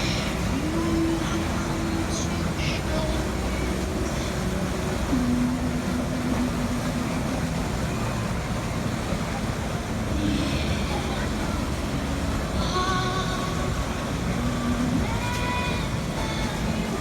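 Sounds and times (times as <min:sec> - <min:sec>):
boat engine rumble: 0:00.0 - 0:17.0
low steady hum: 0:00.0 - 0:17.0
water noise: 0:00.0 - 0:17.0.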